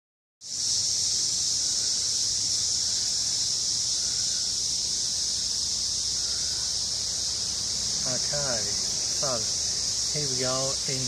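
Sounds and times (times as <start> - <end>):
insects droning: 0.4 - 11.0.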